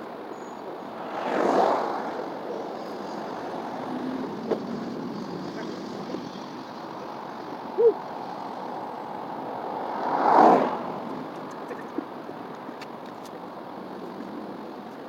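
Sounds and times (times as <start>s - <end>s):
steady rushing noise: 0.0s - 15.0s
vehicle passing by: 0.6s - 12.8s.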